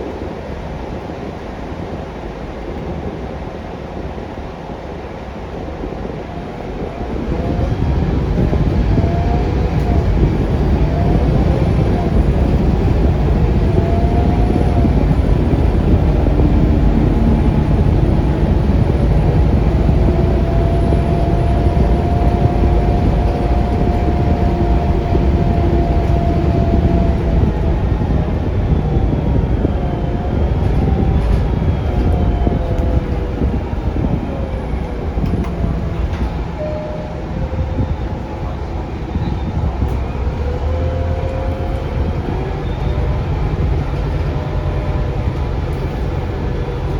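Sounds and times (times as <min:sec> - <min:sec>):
bus engine rumble: 0:00.0 - 0:46.9
road noise: 0:00.0 - 0:46.9
faint whine varying in pitch: 0:05.1 - 0:46.9.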